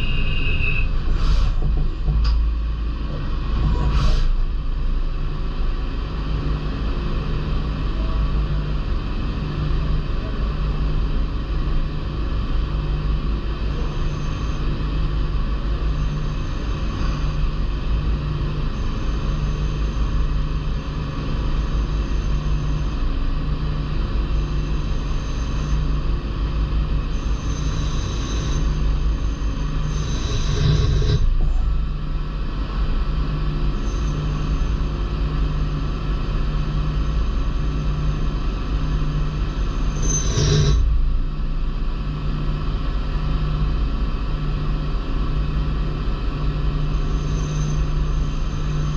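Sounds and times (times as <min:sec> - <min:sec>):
high-pitched machine whine: 0:00.0 - 0:48.9
machine low hum: 0:00.0 - 0:48.9.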